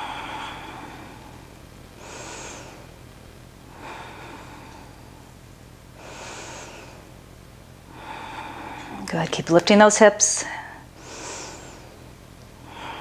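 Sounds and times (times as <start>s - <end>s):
woman breathing slowly: 0.0s - 3.0s, 3.6s - 7.2s, 7.8s - 9.1s, 10.4s - 13.0s.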